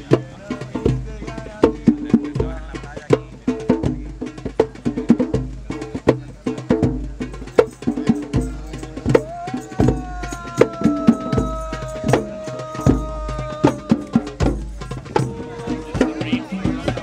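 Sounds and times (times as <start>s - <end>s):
hand drums beating fast rhythm: 0.0s - 17.0s.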